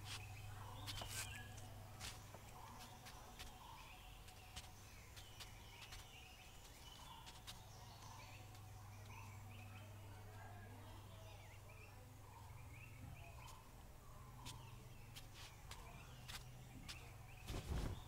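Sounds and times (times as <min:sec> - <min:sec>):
faint birds chirping: 0:00.0 - 0:18.0
low steady hum: 0:00.0 - 0:18.0.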